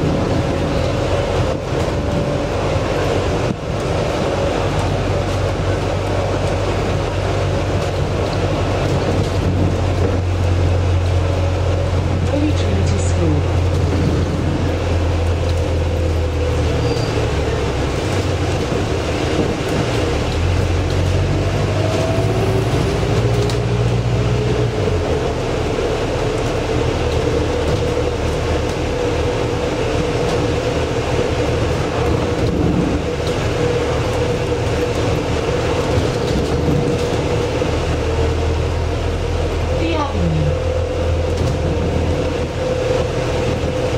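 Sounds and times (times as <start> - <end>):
bus drivetrain hum with whine: 0.0 - 43.9
road noise: 0.0 - 43.9.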